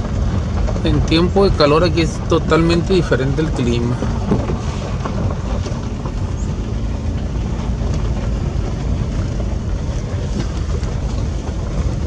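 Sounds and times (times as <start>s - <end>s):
knocks from rough road: 0.0s - 12.0s
tyres and engine rumbling: 0.0s - 12.0s.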